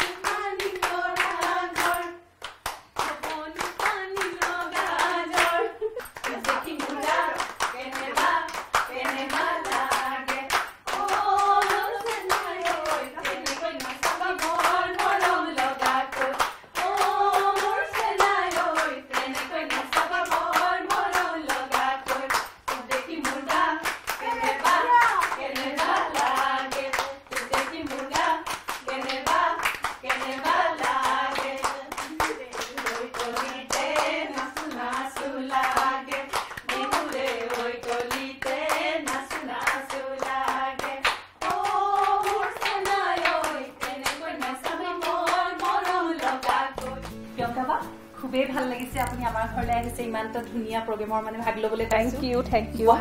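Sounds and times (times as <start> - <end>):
women singing: 0.0 - 2.3, 3.0 - 53.0
women clapping in rhythm: 0.0 - 47.6, 48.8 - 50.1.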